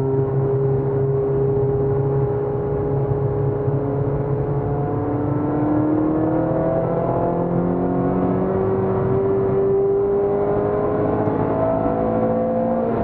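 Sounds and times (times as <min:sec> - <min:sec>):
car engine accelerating: 0:00.0 - 0:13.0
road noise: 0:00.0 - 0:13.0.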